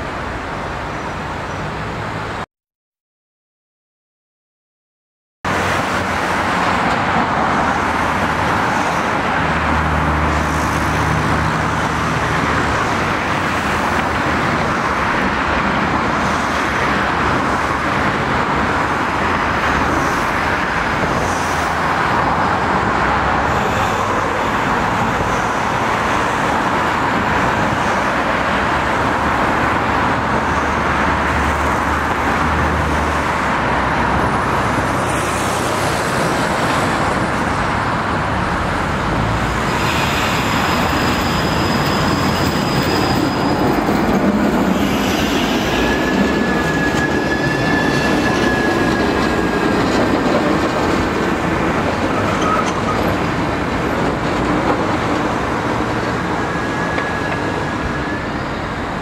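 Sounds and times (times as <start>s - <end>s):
street traffic noise: 0.0s - 2.5s, 5.5s - 59.0s.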